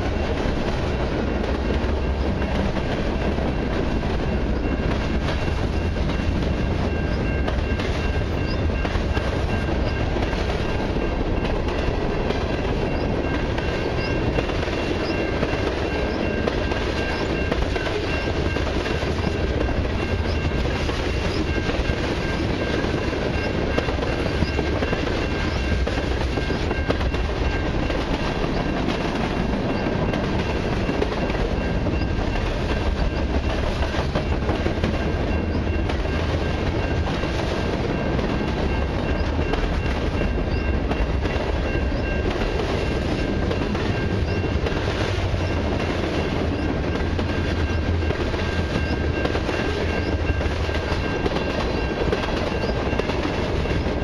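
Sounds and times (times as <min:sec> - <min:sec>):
clickety-clack over rail joints: 0:00.0 - 0:54.0
freight train rolling past: 0:00.0 - 0:54.0.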